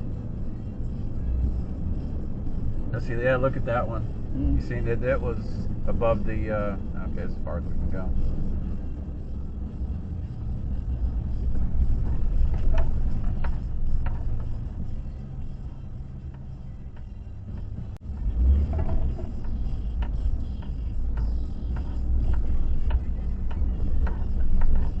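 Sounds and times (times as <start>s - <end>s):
car road rumble from inside: 0.0s - 25.0s
faint music on car stereo: 0.0s - 25.0s.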